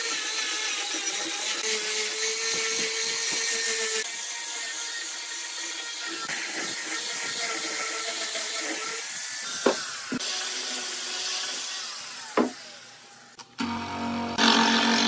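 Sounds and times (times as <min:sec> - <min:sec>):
angle grinder sanding wood: 0:00.0 - 0:15.0.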